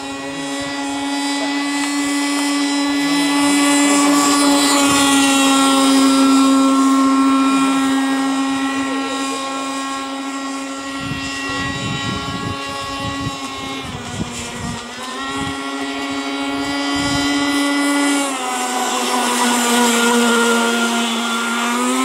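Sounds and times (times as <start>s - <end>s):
model boat engine running: 0.0s - 22.0s.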